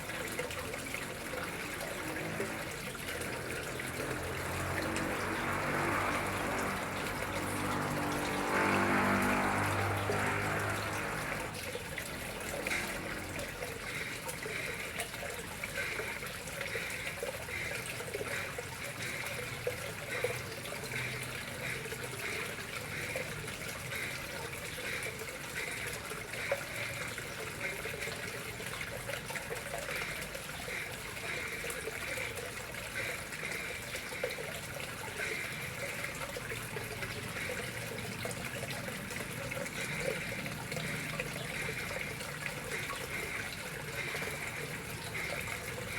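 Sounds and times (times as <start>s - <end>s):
water trickling into a pond: 0.0s - 45.9s.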